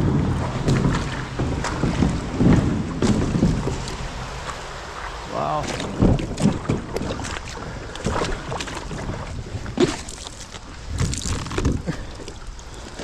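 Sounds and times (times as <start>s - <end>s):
kayak knocks: 0.0s - 13.0s
water splashing: 0.0s - 13.0s
wind rumbling on microphone: 0.0s - 13.0s.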